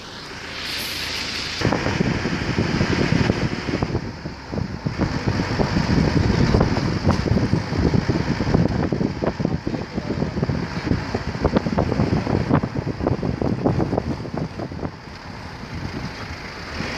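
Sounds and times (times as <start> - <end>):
wind buffeting microphone: 0.8 - 16.9.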